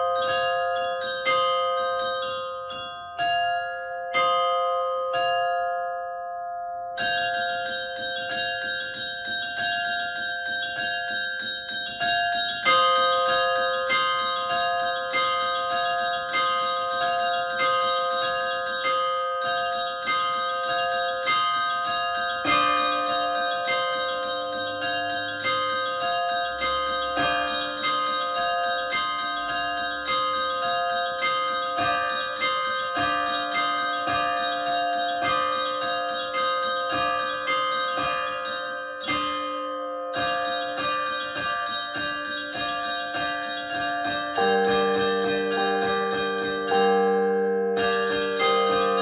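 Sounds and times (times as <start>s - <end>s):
church bells ringing: 0.0s - 49.0s
deep bell: 0.0s - 49.0s.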